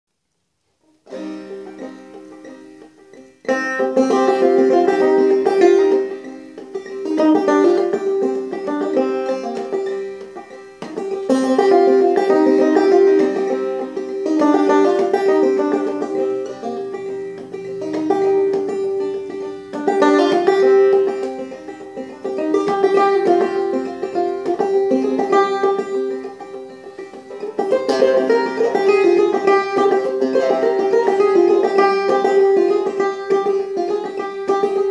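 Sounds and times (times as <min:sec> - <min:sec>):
banjo plucked notes: 0:00.8 - 0:34.9.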